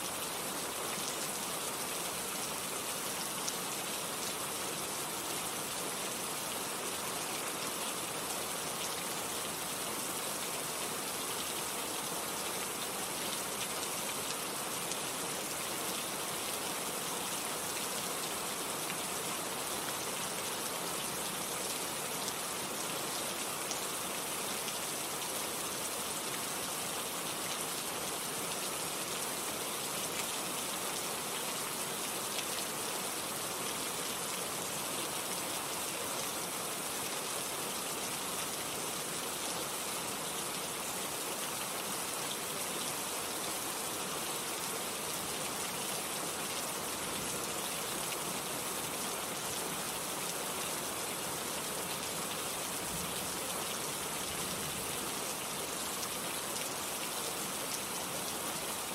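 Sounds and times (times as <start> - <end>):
heavy rain on foliage: 0.0 - 58.9.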